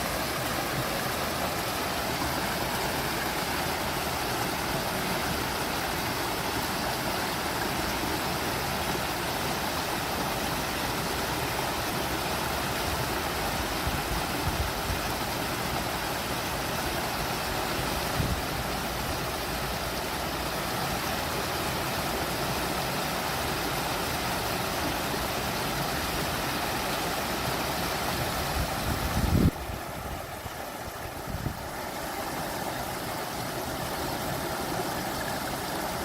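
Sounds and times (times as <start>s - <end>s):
water rushing in waterfall: 0.0s - 36.0s.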